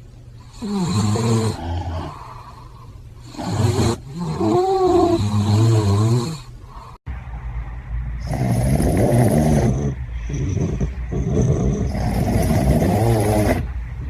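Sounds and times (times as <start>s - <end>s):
cat snoring: 0.4s - 7.0s, 8.2s - 13.7s.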